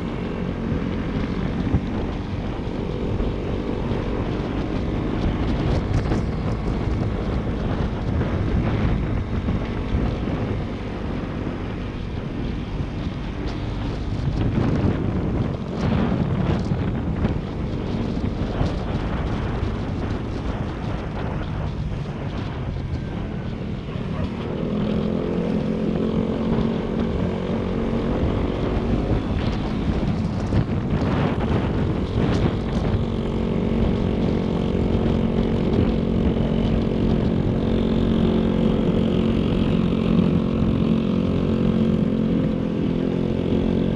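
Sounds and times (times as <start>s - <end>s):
motorcycle engine running: 0.0s - 43.9s
wind rushing over microphone: 0.0s - 43.9s.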